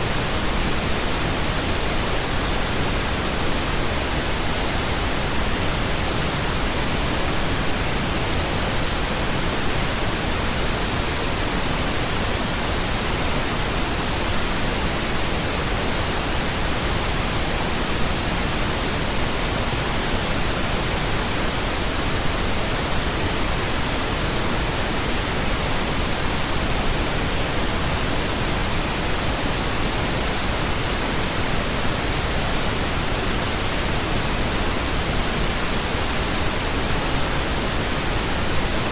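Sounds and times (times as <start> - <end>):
steady pink noise hiss: 0.0 - 38.9.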